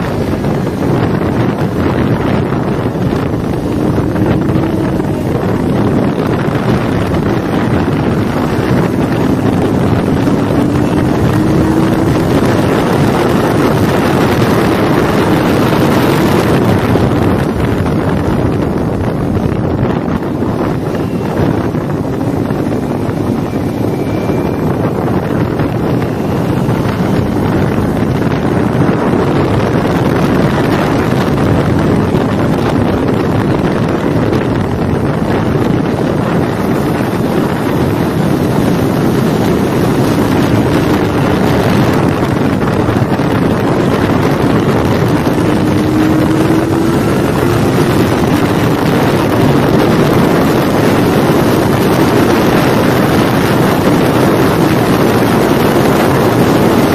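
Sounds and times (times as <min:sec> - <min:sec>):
motorcycle engine under load: 0:00.0 - 0:56.9
wind rush on microphone: 0:00.0 - 0:56.9.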